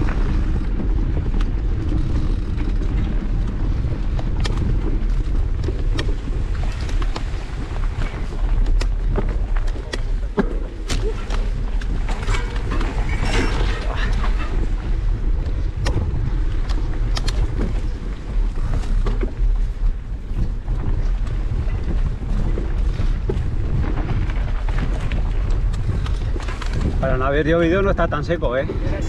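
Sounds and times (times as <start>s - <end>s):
bike clicking and rattling: 0.0s - 29.0s
tyres rolling over dirt and grass: 0.0s - 29.0s
wind rumble on microphone: 0.0s - 29.0s.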